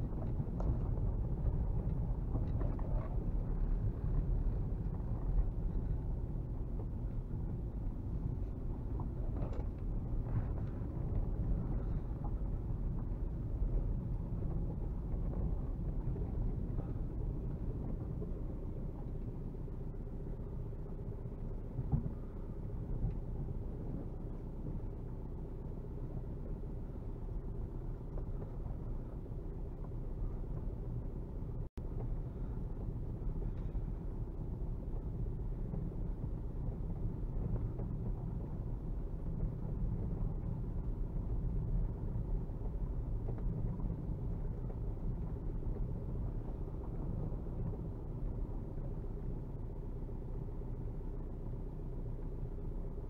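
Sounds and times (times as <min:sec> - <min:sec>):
car engine low rumble: 0:00.0 - 0:53.0
car moving over dirt track: 0:00.0 - 0:53.0.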